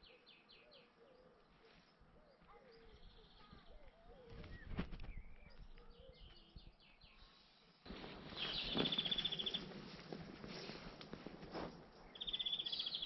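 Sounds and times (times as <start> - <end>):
songbirds calling: 0.0 - 13.0.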